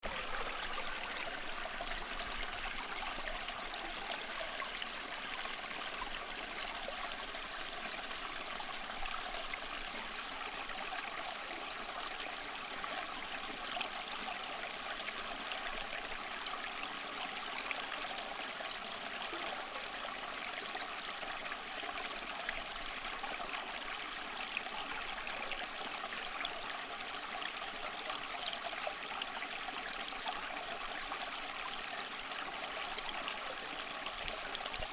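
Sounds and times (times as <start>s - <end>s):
stream running over stones: 0.0s - 34.9s.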